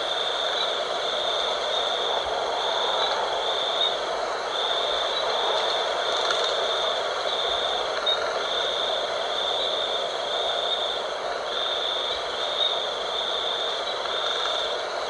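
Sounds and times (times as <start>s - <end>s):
high insect trill pulsing: 0.0s - 15.0s
night wind: 0.0s - 15.0s.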